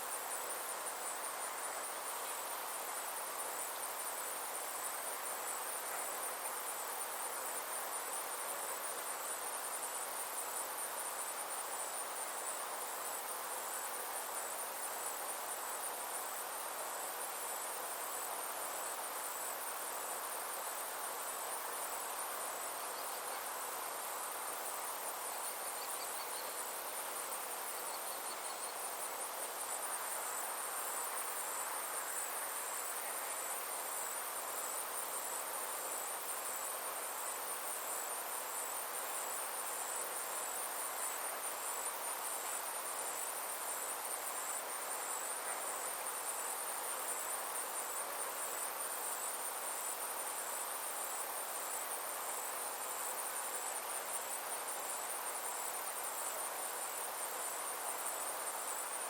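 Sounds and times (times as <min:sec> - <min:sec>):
insects trilling: 0:00.0 - 0:59.0
soft hiss: 0:00.0 - 0:59.0.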